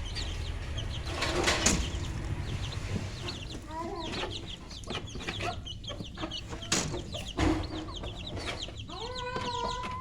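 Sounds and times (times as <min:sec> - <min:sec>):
chickens clucking: 0:00.0 - 0:10.0
knocks and thumps: 0:01.0 - 0:10.0.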